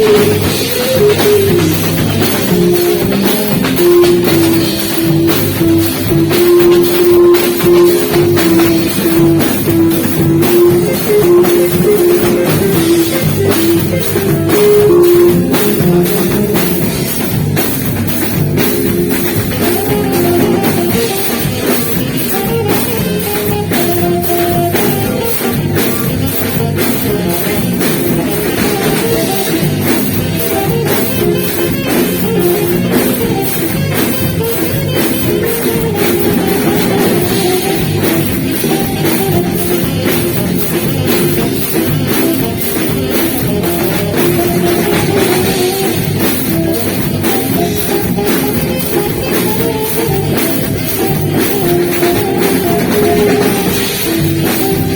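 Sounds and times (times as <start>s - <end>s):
drum kit pounding: 0.0s - 54.9s
saxophone melody: 0.0s - 54.9s.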